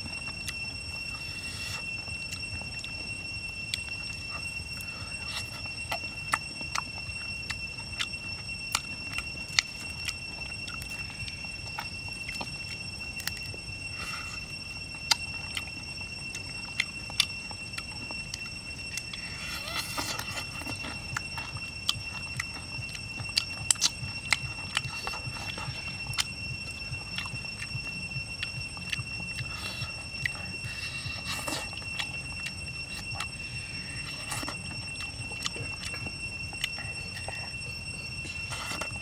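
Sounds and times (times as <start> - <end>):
high-pitched whine: 0.0 - 39.0
person chewing with mouth clicks: 0.0 - 39.0.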